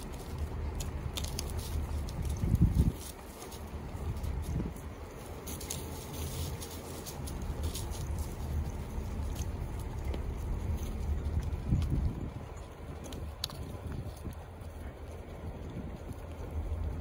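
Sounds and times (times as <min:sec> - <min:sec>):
hooves crunching in snow: 0:00.0 - 0:17.0
wind rumble on microphone: 0:00.0 - 0:17.0.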